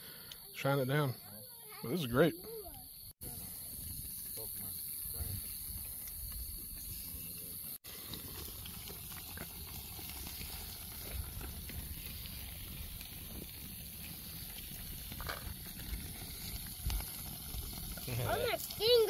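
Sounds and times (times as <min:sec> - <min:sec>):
campfire crackling and popping: 0:01.7 - 0:19.0
low steady fire rumble: 0:03.2 - 0:19.0.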